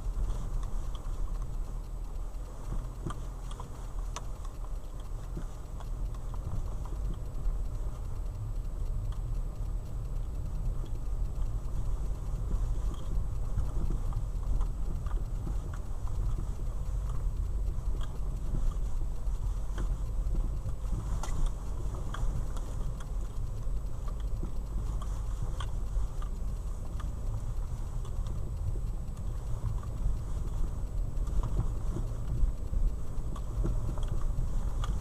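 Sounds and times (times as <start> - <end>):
low road rumble: 0.0 - 35.0
suspension clunks and taps: 0.0 - 35.0.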